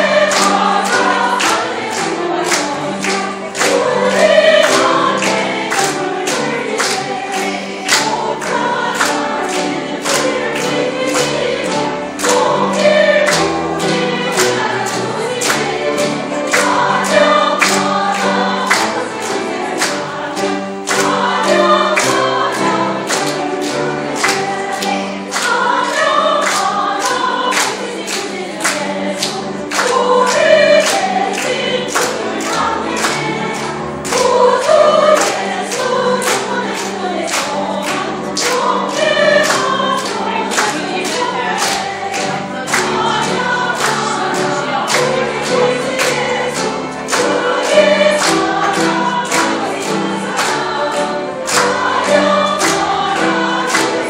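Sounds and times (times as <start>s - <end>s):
congregation clapping along: 0.0s - 54.0s
women's choir singing: 0.0s - 54.0s.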